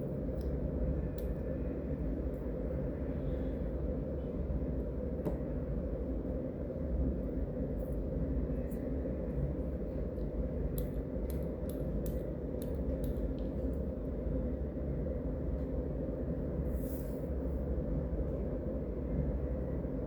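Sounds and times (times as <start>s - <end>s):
low hum of street noise: 0.0s - 20.0s.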